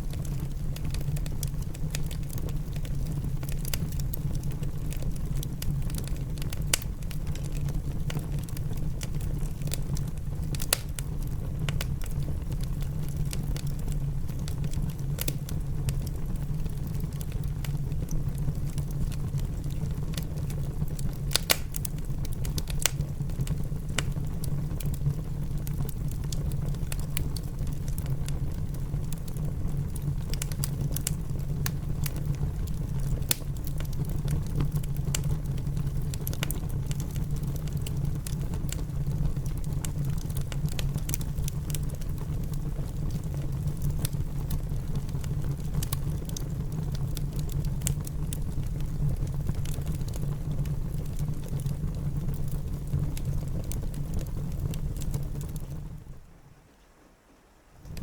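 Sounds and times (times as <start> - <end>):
wood fire crackling: 0.0 - 57.0, 57.7 - 58.0
rain patter: 0.0 - 58.0.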